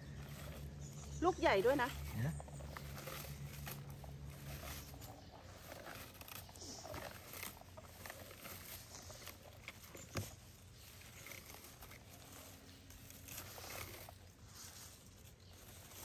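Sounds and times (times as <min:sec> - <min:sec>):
berry scoop rustling bushes: 0:00.0 - 0:16.0.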